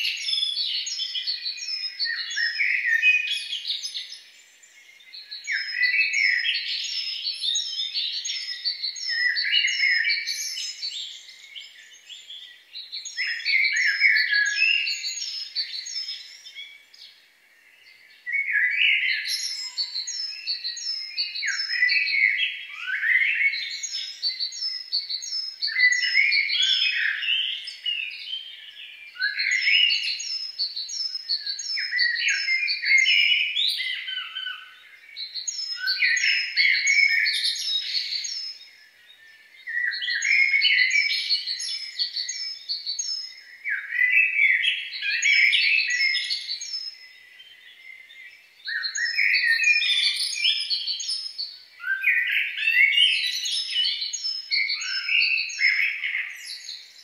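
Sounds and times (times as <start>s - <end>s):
songbirds chirping and warbling: 0.0s - 57.0s.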